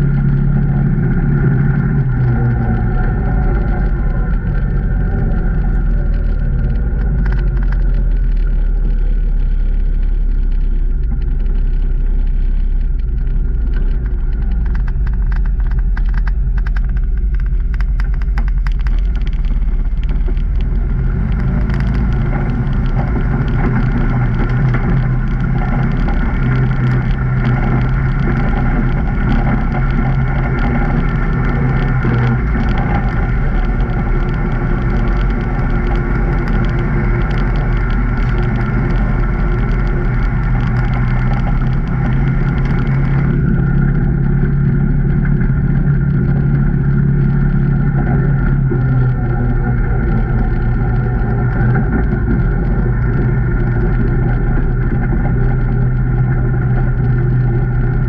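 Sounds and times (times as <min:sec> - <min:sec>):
light clatter of ticks: 0:00.0 - 0:58.0
vehicle engine running: 0:00.0 - 0:58.0.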